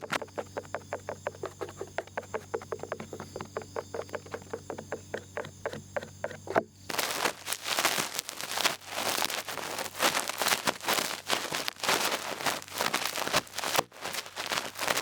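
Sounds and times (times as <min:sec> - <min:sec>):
ear pick scraping: 0:00.0 - 0:15.0.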